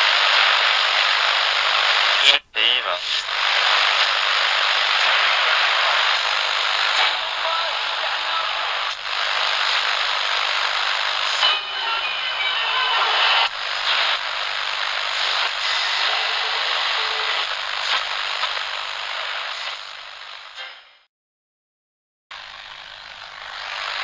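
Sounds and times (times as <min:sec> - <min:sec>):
radio static hiss: 0:00.0 - 0:20.9, 0:22.4 - 0:24.0.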